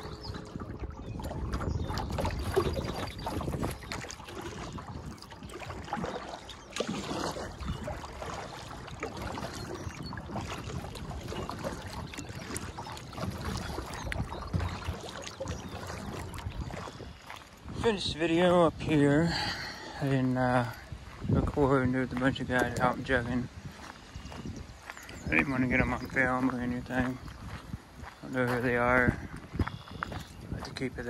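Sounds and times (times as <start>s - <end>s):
paddle splashes: 0.0s - 31.0s
water lapping against hull: 0.0s - 31.0s
wind rumble on microphone: 0.0s - 31.0s.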